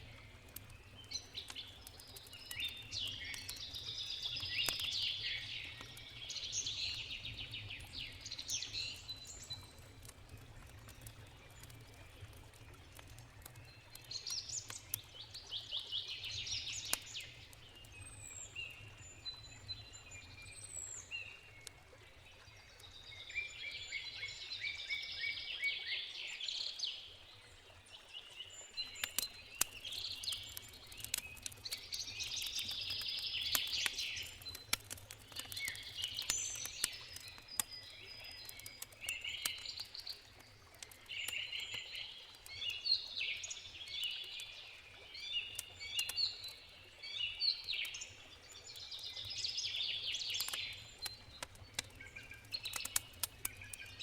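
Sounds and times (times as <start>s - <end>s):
campfire crackling: 0.0s - 23.6s, 27.0s - 54.0s
songbirds singing: 0.0s - 54.0s.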